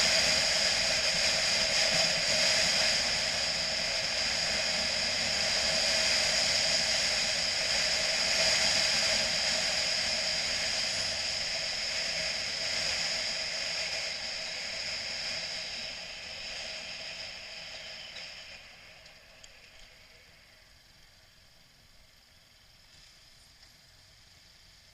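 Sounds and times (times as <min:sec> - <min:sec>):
motorcycle road and engine noise: 0:00.0 - 0:24.9.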